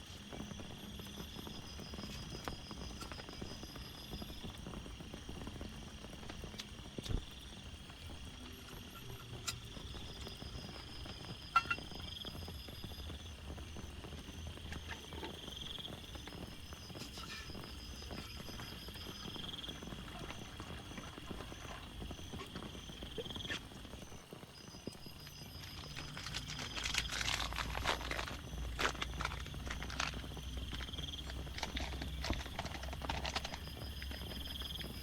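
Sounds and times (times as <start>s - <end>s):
high-pitched insect chorus: 0.0s - 35.0s
rain falling: 0.0s - 35.0s.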